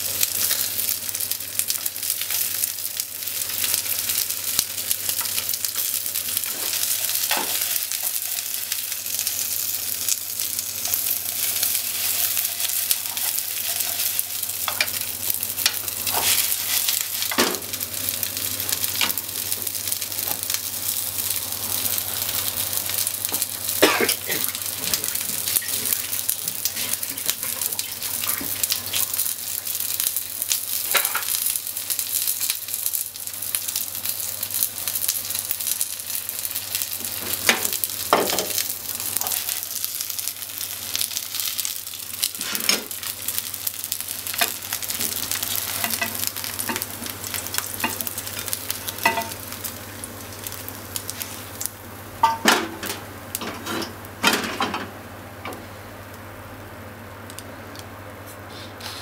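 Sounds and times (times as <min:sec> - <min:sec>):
tofu sizzling in oil: 0:00.0 - 0:52.4.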